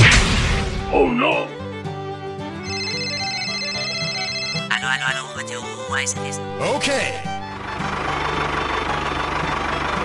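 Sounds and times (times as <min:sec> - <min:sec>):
background music held notes: 0:00.1 - 0:10.0.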